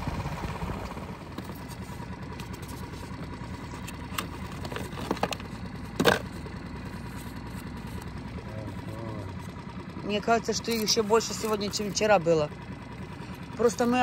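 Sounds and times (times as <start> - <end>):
small boat motor running: 0.0 - 14.0.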